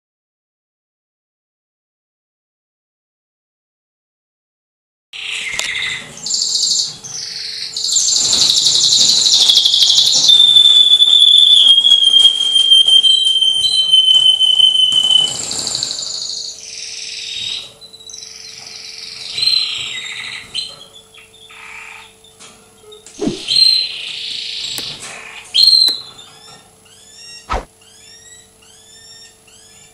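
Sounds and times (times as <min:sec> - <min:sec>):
canary singing: 0:05.2 - 0:29.9.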